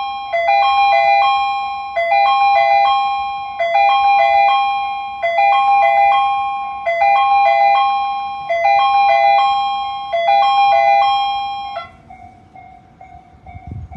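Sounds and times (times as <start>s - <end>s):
electronic bell-like jingle: 0.0s - 13.7s.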